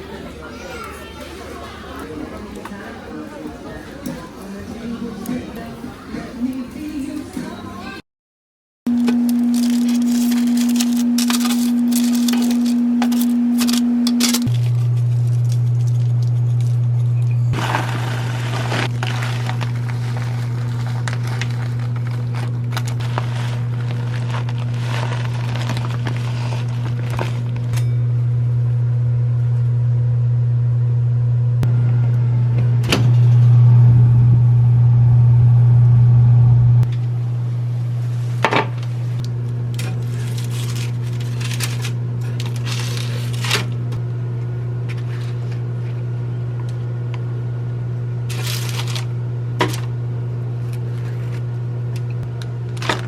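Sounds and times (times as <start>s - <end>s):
microwave oven humming: 8.9s - 53.0s.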